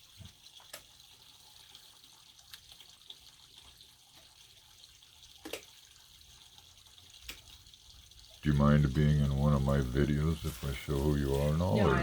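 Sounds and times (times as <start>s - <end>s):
trickle of running water: 0.0s - 12.0s.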